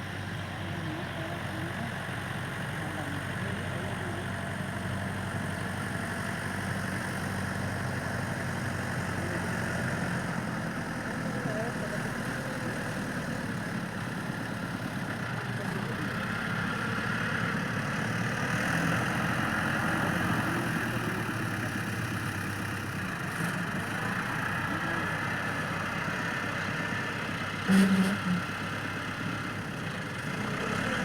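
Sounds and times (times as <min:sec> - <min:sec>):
tractor engine idling: 0:00.0 - 0:30.6.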